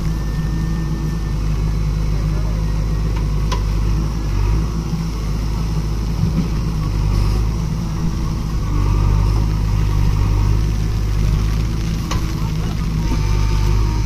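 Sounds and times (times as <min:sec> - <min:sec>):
backhoe diesel engine running: 0:00.0 - 0:14.0.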